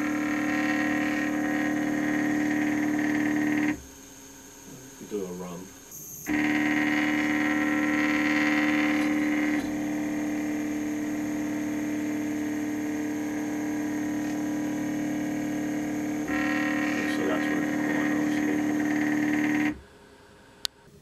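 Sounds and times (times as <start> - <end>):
stepper motor whining: 0.0 - 3.9, 4.7 - 19.8.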